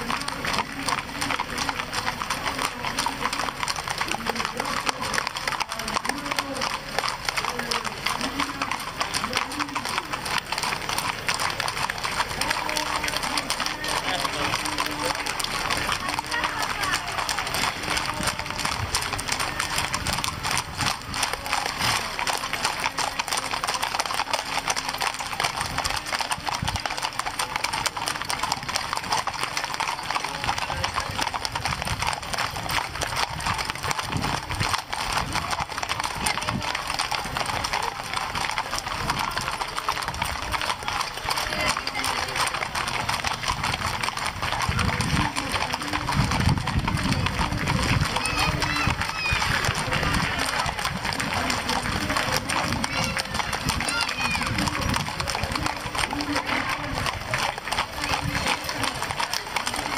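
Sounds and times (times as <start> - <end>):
horse hooves clip-clopping: 0.0 - 59.9
voices in background: 0.0 - 59.9.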